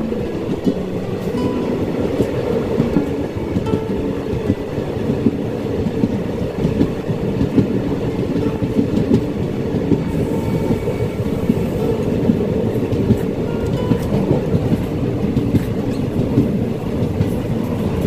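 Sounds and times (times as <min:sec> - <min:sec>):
train rumbling on track: 0:00.0 - 0:18.0
wheels clicking over rail joints: 0:00.0 - 0:18.0.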